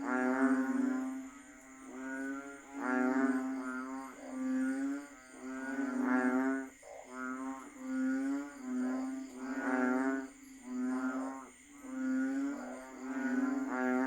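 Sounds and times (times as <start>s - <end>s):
frogs calling in chorus: 0.0s - 14.0s.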